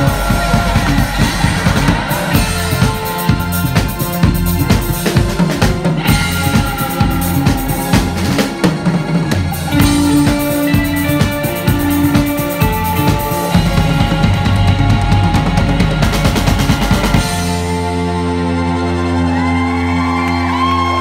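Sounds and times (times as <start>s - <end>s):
drum kit beat: 0.0s - 18.4s
electric guitar: 0.0s - 21.0s.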